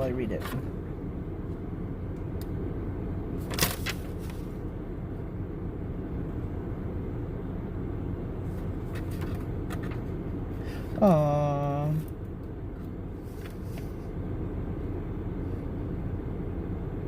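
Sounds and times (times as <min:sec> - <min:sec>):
car idling: 0:00.0 - 0:17.0.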